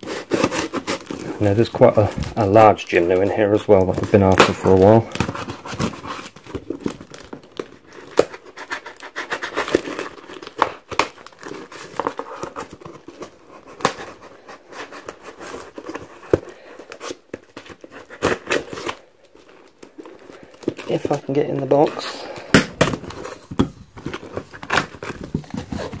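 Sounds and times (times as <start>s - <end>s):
knife cutting and scraping film: 0.0s - 26.0s
plastic wrap crinkling: 0.0s - 26.0s.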